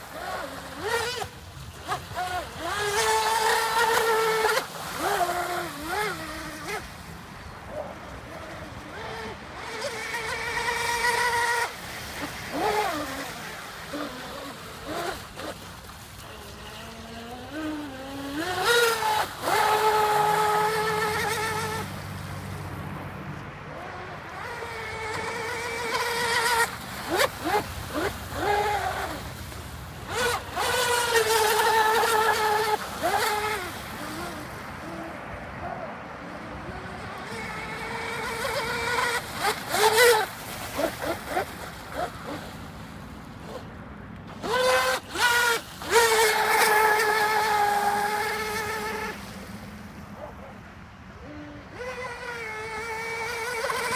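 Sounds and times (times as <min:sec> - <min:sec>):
high-pitched motor whine: 0:00.0 - 0:50.6, 0:51.2 - 0:53.9.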